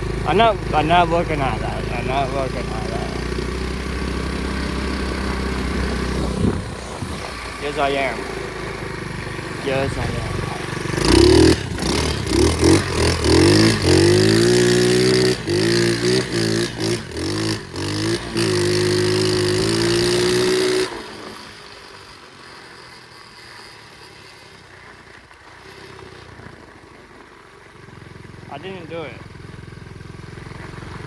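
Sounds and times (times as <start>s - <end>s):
small motorbike engine revving: 0.0s - 31.0s.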